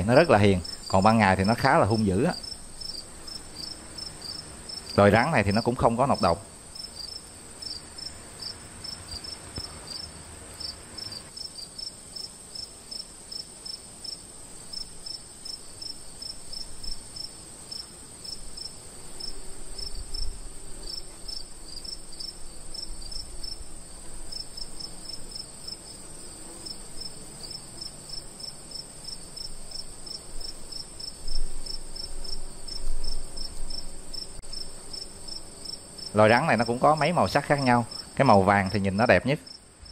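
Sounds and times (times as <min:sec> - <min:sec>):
crickets chirping: 0:00.0 - 0:39.9
high-pitched insect hum: 0:00.0 - 0:39.9.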